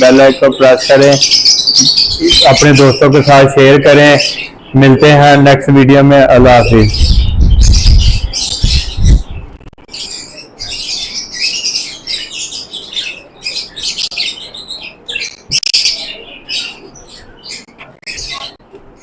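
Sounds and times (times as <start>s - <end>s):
small birds chirping and squawking: 0.0s - 19.0s.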